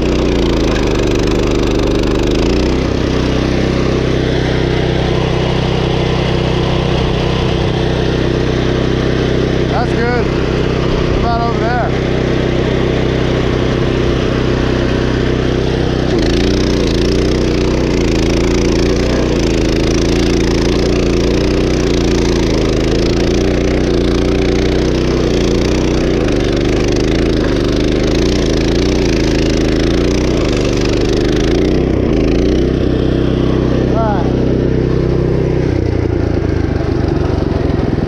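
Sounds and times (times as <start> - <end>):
stump grinder engine running: 0.0 - 38.0.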